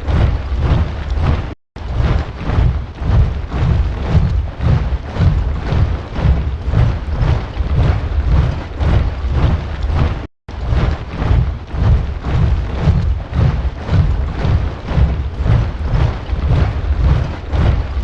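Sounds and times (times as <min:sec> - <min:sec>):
troops marching boots stamping: 0:00.0 - 0:18.0.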